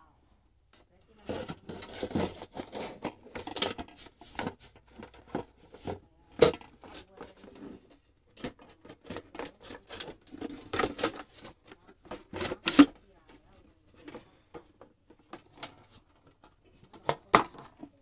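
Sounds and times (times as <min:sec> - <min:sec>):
plastic parts clicking and rattling: 0:01.0 - 0:18.0.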